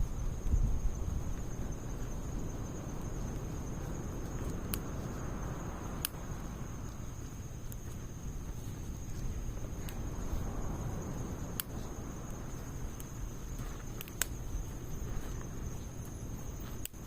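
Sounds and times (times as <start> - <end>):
fire burning with crackling pops: 0.0 - 17.0.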